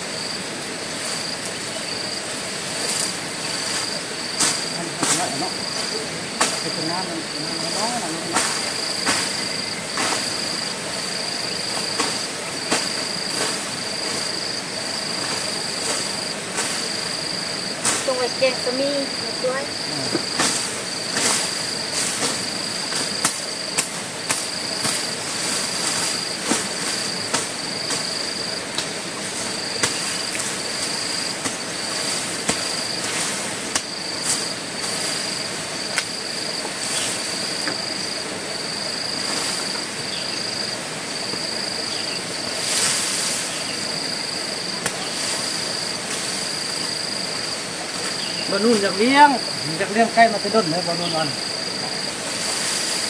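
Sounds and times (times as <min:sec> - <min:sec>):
insect chirring: 0:00.0 - 0:53.0.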